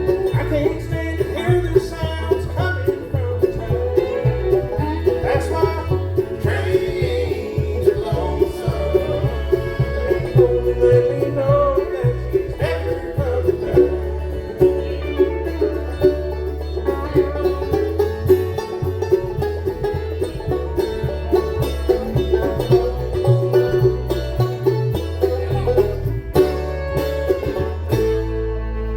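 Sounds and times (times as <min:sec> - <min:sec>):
bluegrass band playing: 0:00.0 - 0:28.9
rapid banjo picking: 0:00.0 - 0:28.9.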